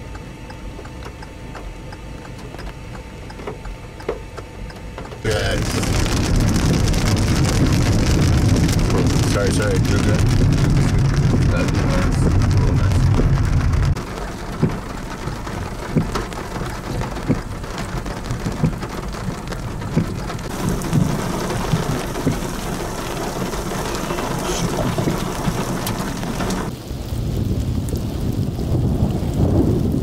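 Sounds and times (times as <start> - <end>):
rain drops hitting: 0.0 - 30.0
dull low rushing noise: 5.2 - 30.0
thunder rumbling: 5.2 - 30.0.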